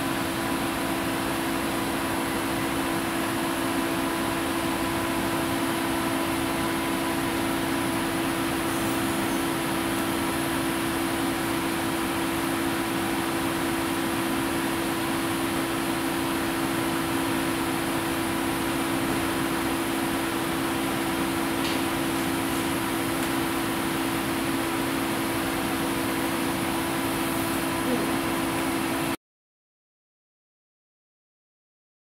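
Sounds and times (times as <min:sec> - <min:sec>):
machine hum and hiss: 0:00.0 - 0:29.2.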